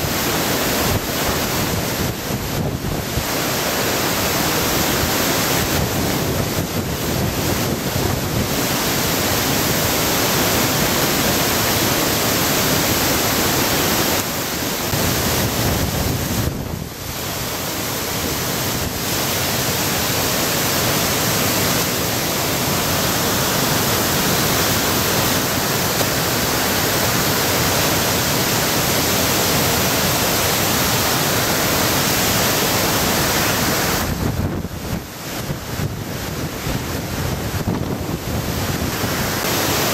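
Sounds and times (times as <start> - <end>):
roar of whitewater rapids: 0.0 - 39.9
wind noise: 0.0 - 39.9.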